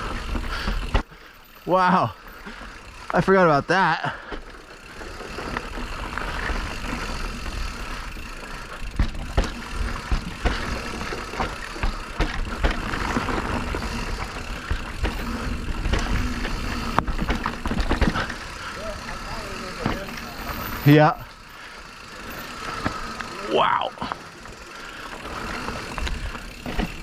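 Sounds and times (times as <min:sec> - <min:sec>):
bike knocking and rattling: 0:00.0 - 0:27.0.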